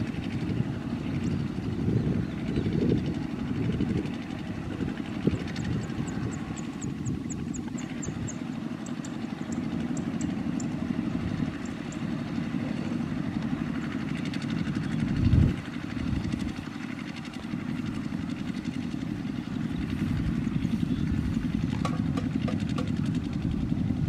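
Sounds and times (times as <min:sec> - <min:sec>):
diesel tractor engines chugging: 0:00.0 - 0:24.0.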